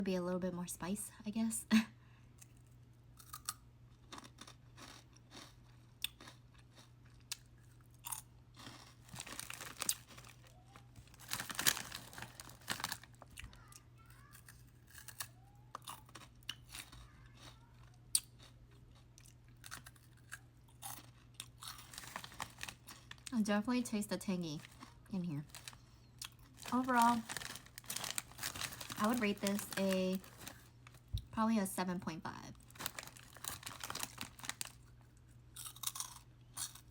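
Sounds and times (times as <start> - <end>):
faint steady hum: 0.0 - 36.9
crisp snack crunching: 2.4 - 23.4, 24.4 - 31.3, 32.5 - 36.9.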